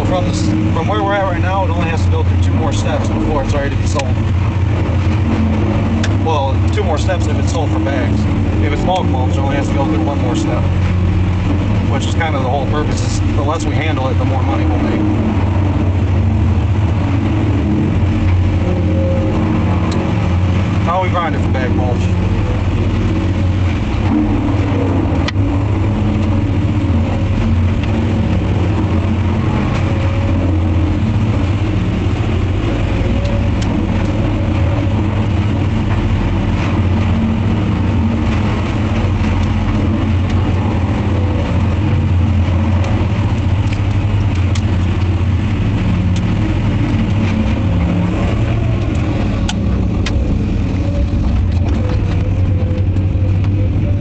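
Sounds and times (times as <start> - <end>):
tree grinder droning: 0.0 - 54.0.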